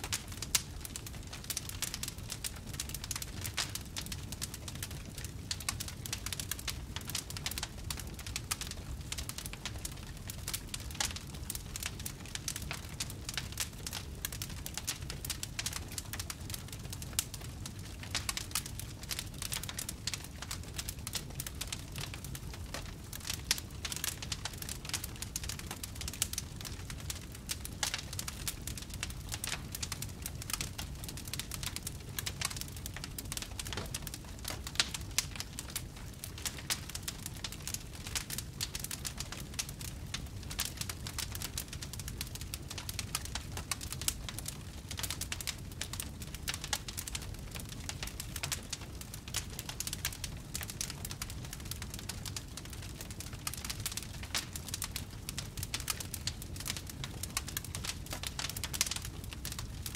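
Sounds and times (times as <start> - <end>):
fireplace fire crackling and popping: 0.0 - 59.9
low fire rumble: 0.0 - 59.9.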